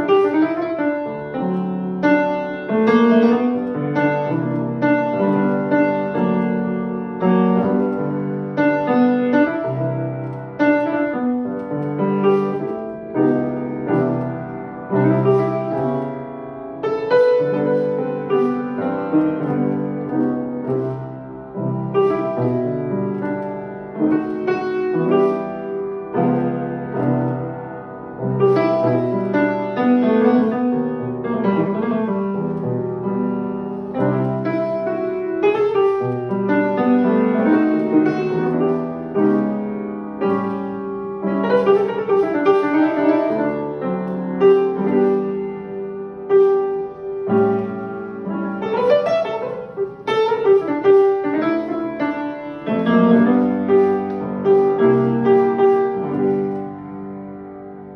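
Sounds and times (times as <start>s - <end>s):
upright piano playing chords: 0.0s - 57.9s.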